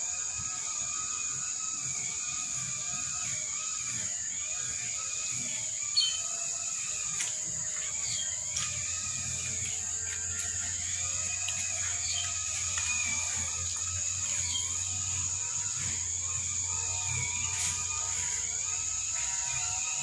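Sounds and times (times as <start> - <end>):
high-pitched hiss: 0.0 - 20.0.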